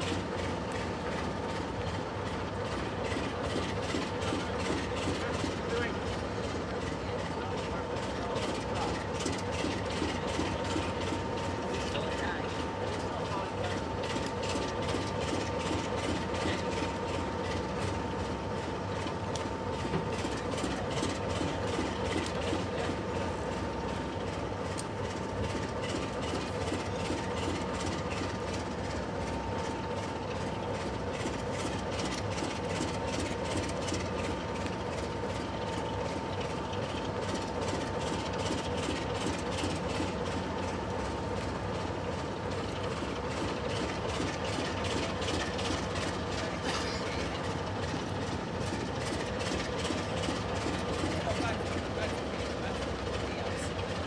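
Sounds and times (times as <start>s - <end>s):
diesel locomotive idling: 0.0s - 54.0s.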